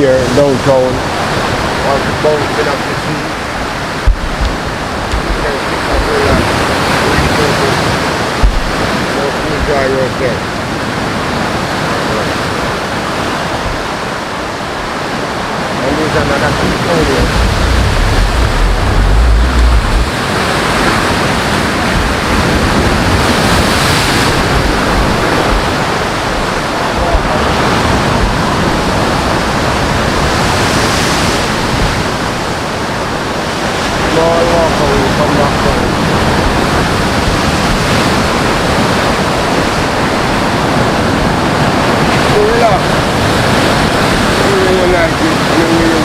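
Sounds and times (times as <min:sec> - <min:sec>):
rushing wind: 0:00.0 - 0:46.0
sea surf: 0:00.0 - 0:46.0
wind buffeting microphone: 0:00.0 - 0:46.0.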